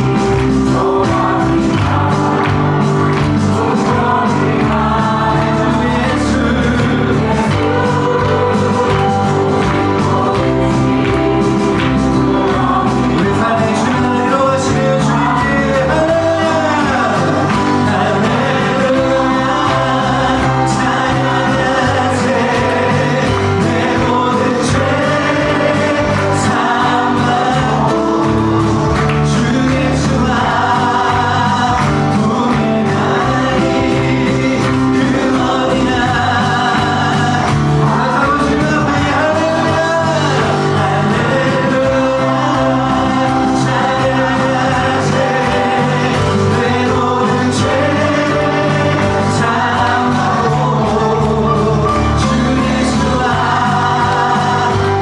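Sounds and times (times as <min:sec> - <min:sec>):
group singing worship song with band: 0:00.0 - 0:55.0.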